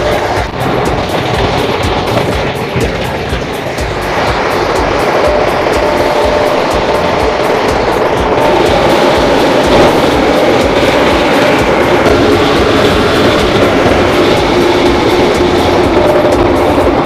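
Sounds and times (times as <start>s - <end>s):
sanding machine running: 0.0s - 17.0s.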